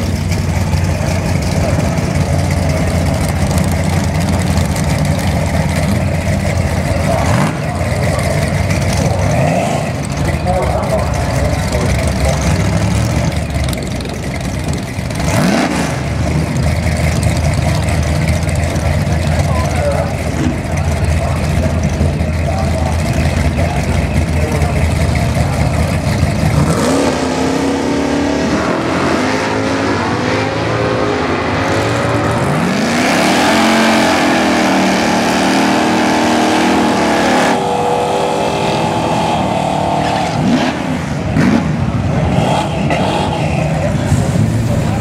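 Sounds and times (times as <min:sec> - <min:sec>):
drag car engine accelerating: 0:00.0 - 0:45.0.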